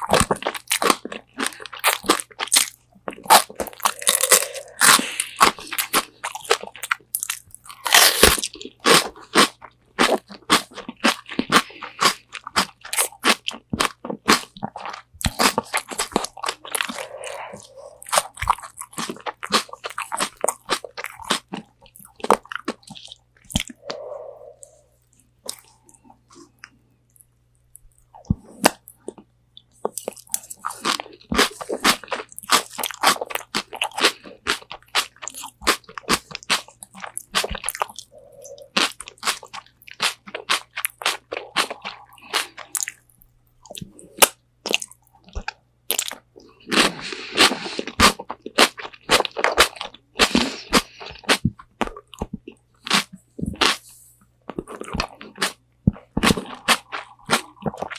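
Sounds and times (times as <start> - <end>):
crunching bites and chewing: 0.0 - 24.0, 24.6 - 57.9.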